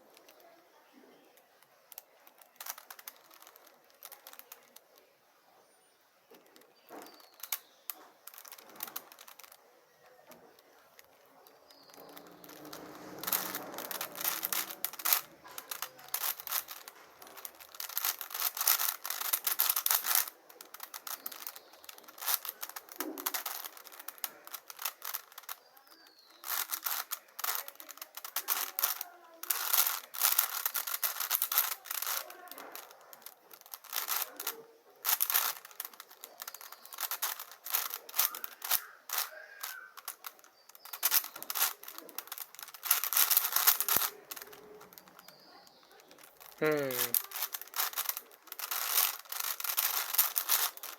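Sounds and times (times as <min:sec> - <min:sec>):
puzzle cube clicking: 0:01.8 - 0:04.9, 0:06.7 - 0:09.6, 0:10.6 - 0:50.9.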